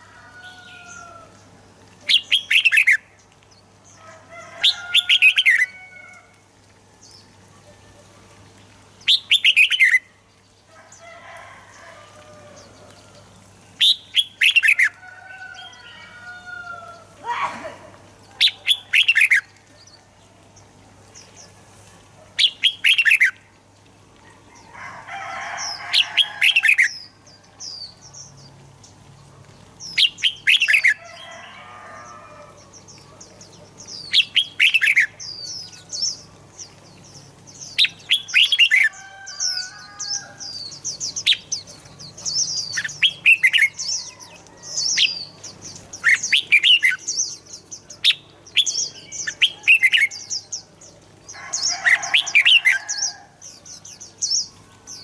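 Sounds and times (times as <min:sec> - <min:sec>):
bird song phrases: 0:00.1 - 0:06.2, 0:07.0 - 0:23.4, 0:24.2 - 0:55.0.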